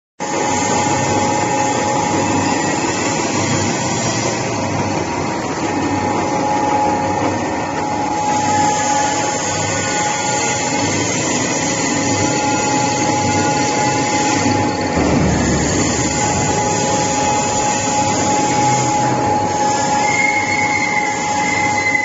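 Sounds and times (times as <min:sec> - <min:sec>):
machine drone with whine: 0:00.3 - 0:22.0.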